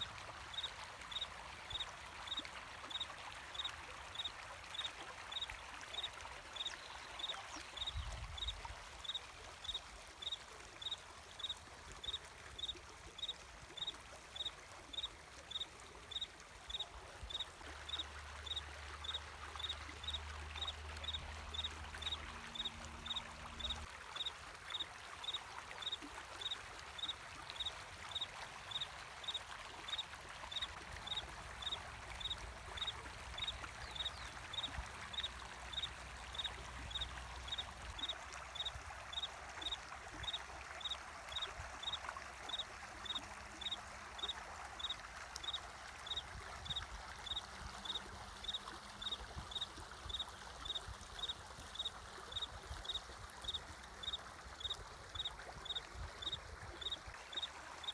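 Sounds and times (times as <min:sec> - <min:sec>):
water flowing: 0:00.0 - 0:57.9
cricket chirping: 0:09.0 - 0:46.2, 0:47.3 - 0:57.9.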